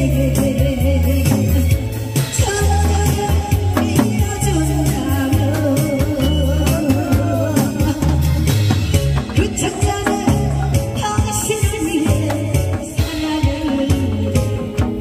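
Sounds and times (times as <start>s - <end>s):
loud music with heavy bass: 0.0s - 15.0s
person singing: 0.0s - 15.0s.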